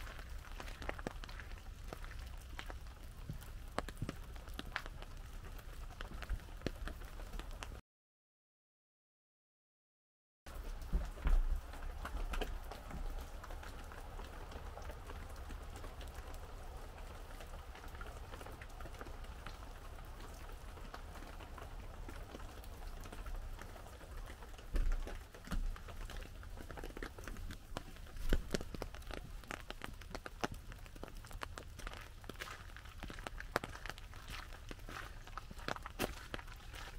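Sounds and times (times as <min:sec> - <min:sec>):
rain tapping on umbrella: 0:00.0 - 0:07.8, 0:10.5 - 0:36.9.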